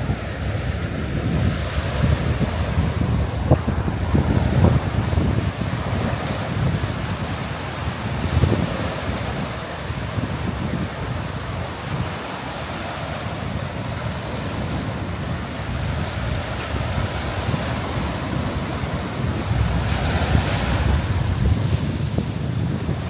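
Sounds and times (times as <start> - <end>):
waves washing up a beach: 0.0 - 23.0
wind on the microphone: 0.0 - 23.0.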